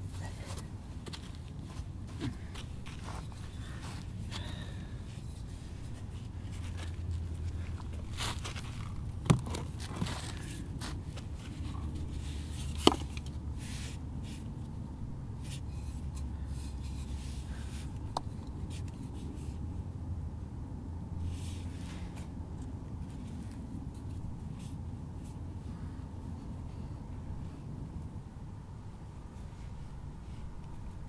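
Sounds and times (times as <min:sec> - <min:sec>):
soft rustles and scrapes: 0:00.0 - 0:14.8, 0:15.4 - 0:19.7, 0:21.2 - 0:27.6, 0:29.3 - 0:31.0
low steady rumble: 0:00.0 - 0:31.0.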